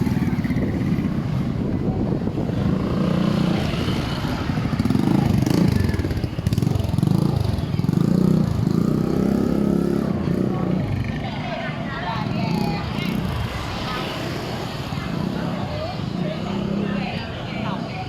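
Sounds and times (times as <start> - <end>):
motorbike engines revving: 0.0 - 18.0.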